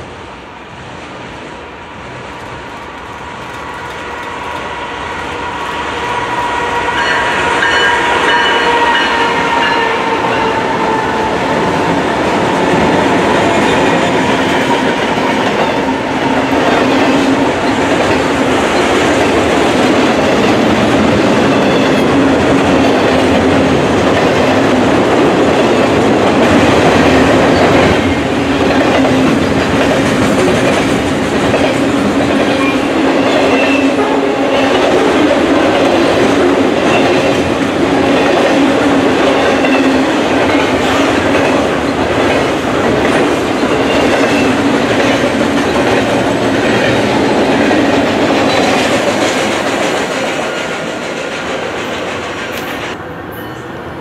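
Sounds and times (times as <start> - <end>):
diesel locomotive engine whine: 0.0 - 54.0
train wheels rumbling on rail: 0.0 - 54.0.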